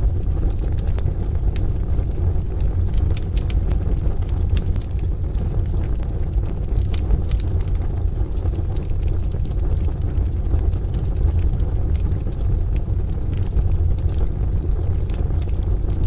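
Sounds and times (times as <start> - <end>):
wood stove fire crackling: 0.0 - 16.0.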